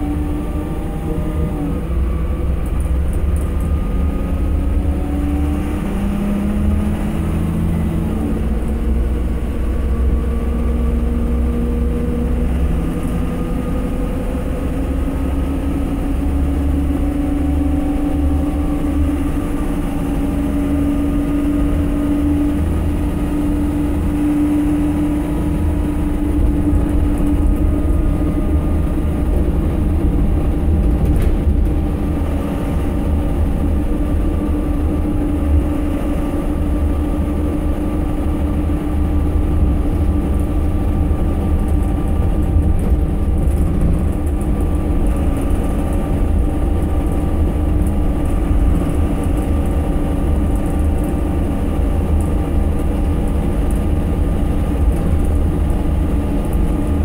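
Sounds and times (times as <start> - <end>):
bus diesel engine rumble: 0.0 - 57.0
road noise: 0.0 - 57.0
steady whine: 0.0 - 57.0.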